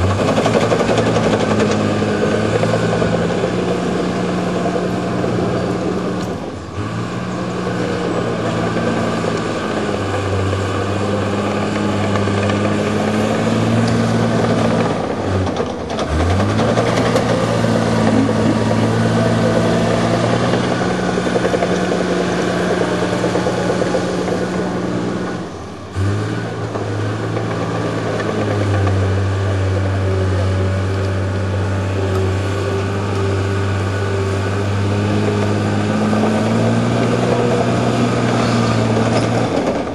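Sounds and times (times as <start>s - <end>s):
bulldozer diesel engine running hard: 0.0s - 39.9s.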